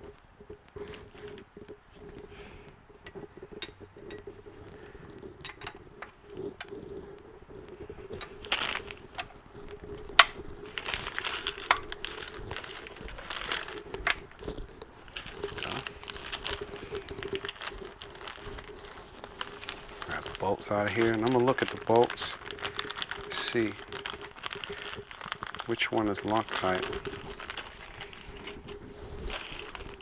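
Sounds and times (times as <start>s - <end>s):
faint steady hum: 0.0s - 30.0s
rustling: 0.0s - 30.0s.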